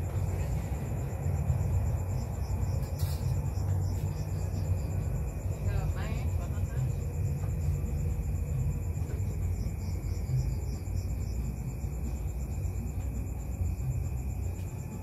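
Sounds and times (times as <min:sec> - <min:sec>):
crickets chirping: 0:00.0 - 0:15.0
low steady rumble: 0:00.0 - 0:15.0.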